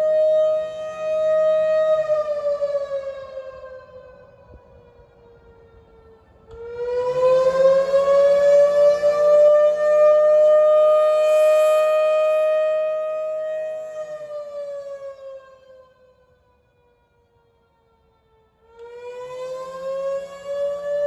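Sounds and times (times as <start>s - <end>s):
fire siren wailing: 0.0s - 21.0s.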